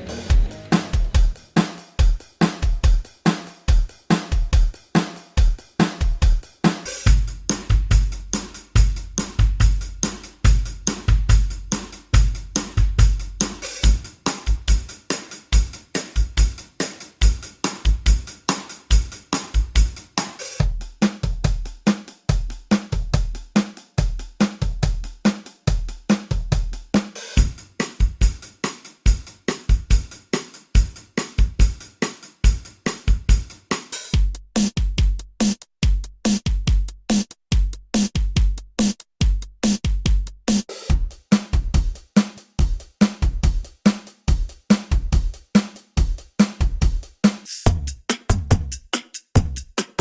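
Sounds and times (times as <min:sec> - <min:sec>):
drum machine beat: 0:00.0 - 0:50.0.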